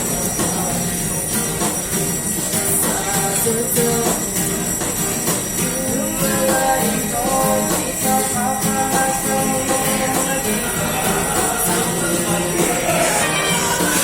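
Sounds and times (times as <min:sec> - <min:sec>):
jingling tambourine percussion: 0:00.0 - 0:14.0
street busker music: 0:00.0 - 0:14.0.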